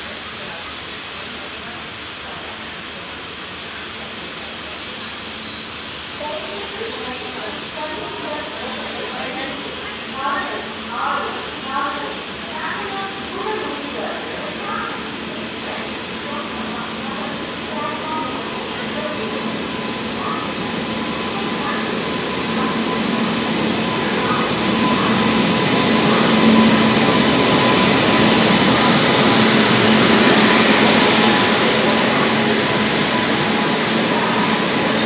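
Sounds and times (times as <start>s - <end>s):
electric train running past: 0.0s - 35.0s
locomotive hum: 0.1s - 35.0s.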